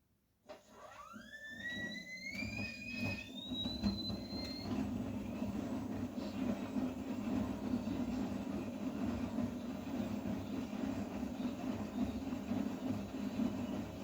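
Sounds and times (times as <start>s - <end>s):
washing machine motor whine: 0.5s - 14.0s.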